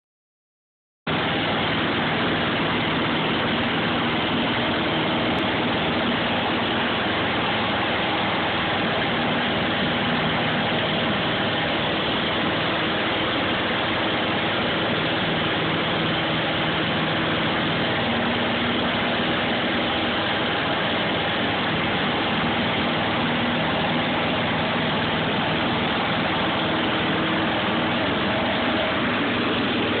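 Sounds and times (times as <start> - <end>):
riding lawn mower engine running: 1.1 - 30.0.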